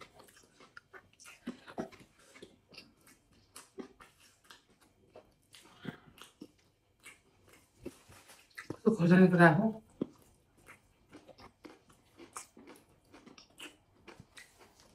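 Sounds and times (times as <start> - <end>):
chewing and mouth smacking: 0.0 - 8.9, 9.8 - 14.9.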